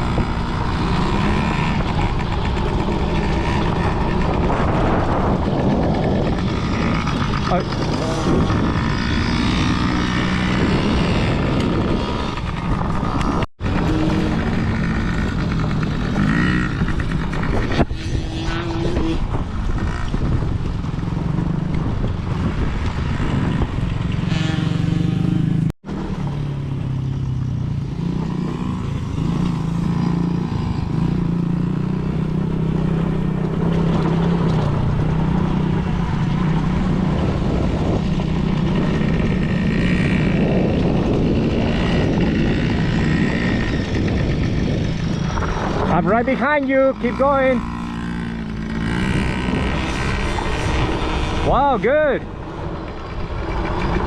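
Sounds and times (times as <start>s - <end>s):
dirt bike engines running: 0.0s - 54.0s.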